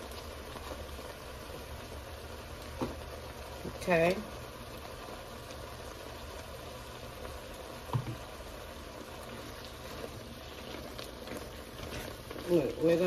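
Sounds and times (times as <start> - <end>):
sizzling and bubbling in skillet: 0.0 - 13.0.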